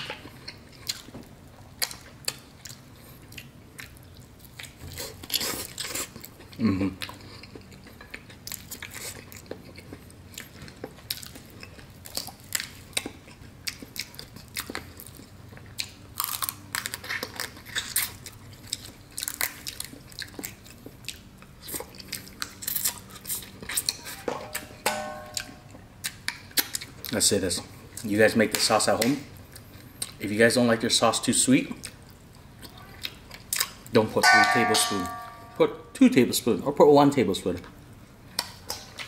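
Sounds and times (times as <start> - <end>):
chewing and mouth smacking: 0.0 - 24.2, 25.4 - 30.2, 31.7 - 34.0, 38.3 - 39.0.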